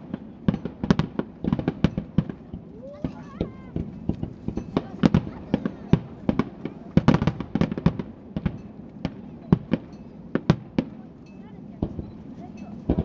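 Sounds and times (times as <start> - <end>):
fireworks bursting in sharp bangs: 0.0 - 13.0.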